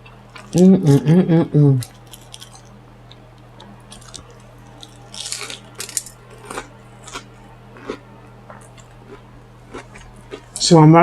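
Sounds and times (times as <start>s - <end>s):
low electrical hum: 0.0s - 11.0s
person chewing crunchy food: 0.1s - 1.1s, 1.8s - 10.7s.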